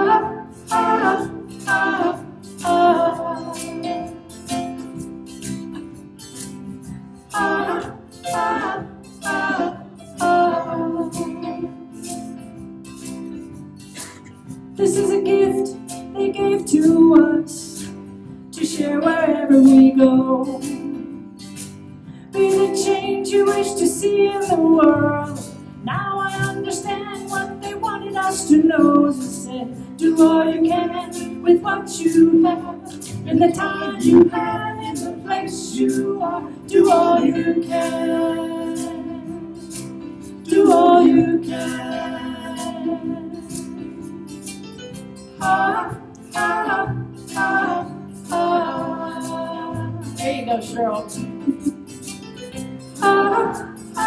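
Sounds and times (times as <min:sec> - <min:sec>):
woman singing: 0:00.0 - 0:04.2, 0:07.3 - 0:11.8, 0:14.8 - 0:21.3, 0:22.3 - 0:39.7, 0:40.4 - 0:43.8, 0:45.4 - 0:51.8, 0:53.0 - 0:54.0
acoustic guitar: 0:00.0 - 0:54.0
banjo: 0:00.0 - 0:54.0
keyboard: 0:00.0 - 0:54.0.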